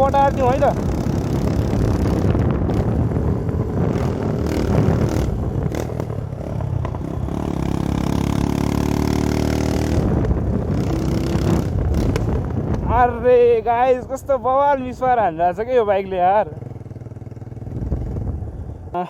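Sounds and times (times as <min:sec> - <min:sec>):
motorcycle engine revving: 0:00.0 - 0:13.5, 0:14.7 - 0:19.0
exhaust crackling and popping: 0:00.0 - 0:15.3, 0:16.4 - 0:18.8.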